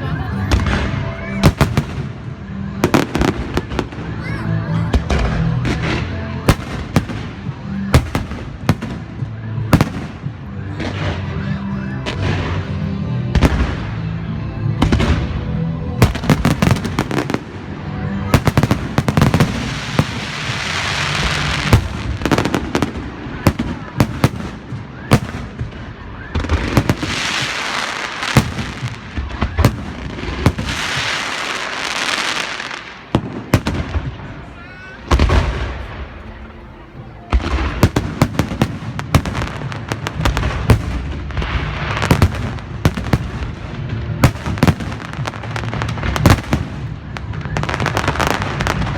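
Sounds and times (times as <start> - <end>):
firecrackers banging: 0.0 - 48.9.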